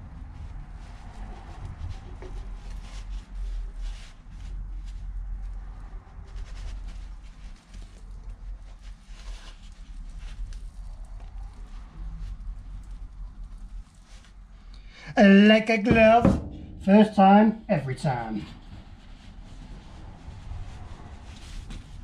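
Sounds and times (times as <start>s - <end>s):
low steady rumble: 0.0s - 22.0s
soft rubber rubbing: 0.2s - 14.7s, 18.4s - 22.0s.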